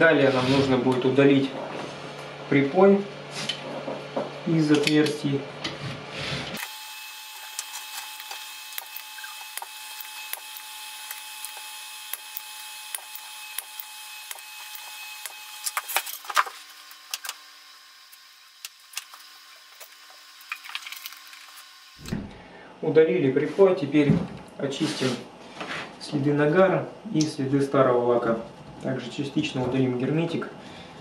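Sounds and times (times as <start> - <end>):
faint hum and hiss: 0.0 - 31.0.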